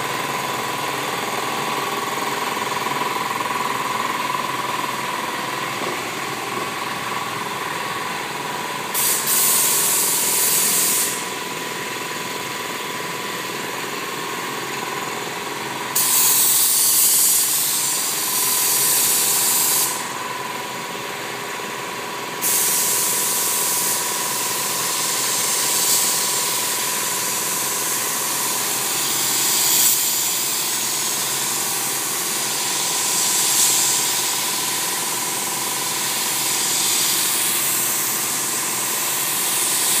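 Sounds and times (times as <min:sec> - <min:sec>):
machine hum with high whine: 0:00.0 - 0:40.0
paint spray gun hissing: 0:01.0 - 0:11.6, 0:15.9 - 0:20.2, 0:22.4 - 0:40.0.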